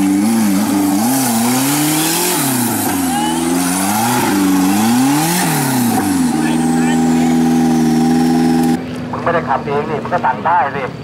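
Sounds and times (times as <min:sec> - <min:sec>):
off-road engine revving: 0:00.0 - 0:11.0.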